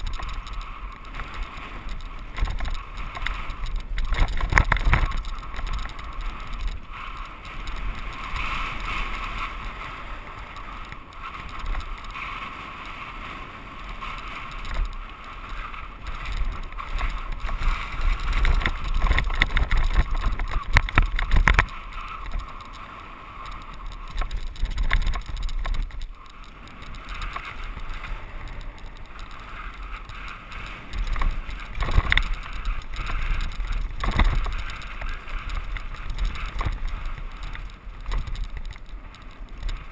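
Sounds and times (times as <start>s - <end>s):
bike rattling and knocking: 0.0s - 13.3s, 13.9s - 39.9s.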